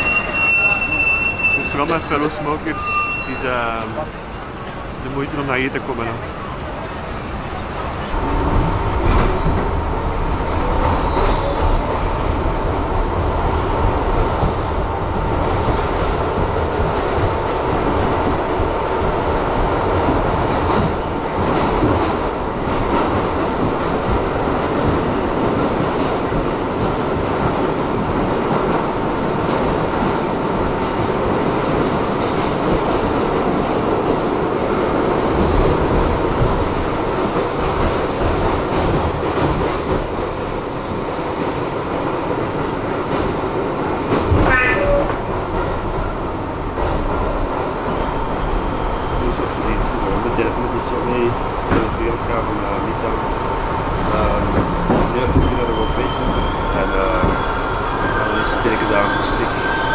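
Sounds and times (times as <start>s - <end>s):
subway train wheels rumbling on rail: 0.0s - 59.9s.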